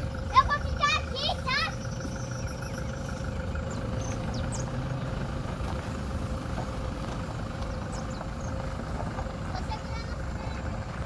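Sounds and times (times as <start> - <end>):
motor vehicle engine running: 0.0 - 11.0.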